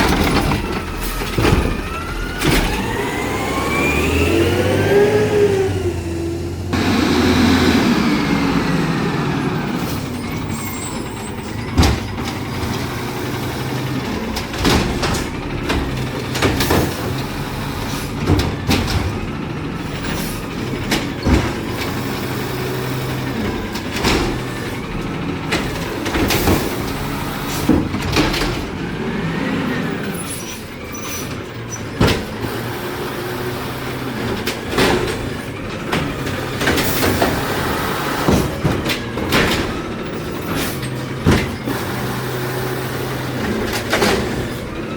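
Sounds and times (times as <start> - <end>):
bangs and clunks of loading gear: 0.0 - 3.4, 9.7 - 44.9
garbage truck engine running: 0.0 - 44.9.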